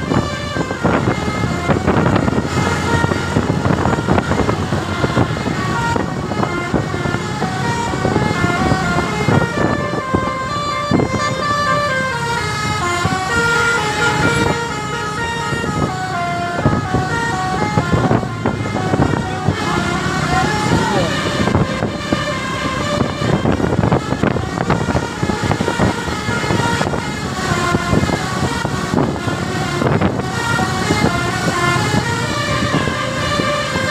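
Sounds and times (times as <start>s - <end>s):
bus engine running: 0.0s - 33.9s
multi-tone bus horn tunes: 0.0s - 33.9s
traffic: 0.0s - 33.9s.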